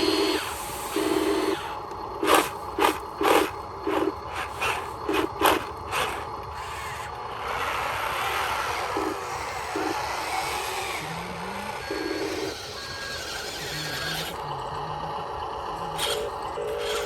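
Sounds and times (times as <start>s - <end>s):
small motors buzzing: 0.0s - 17.0s.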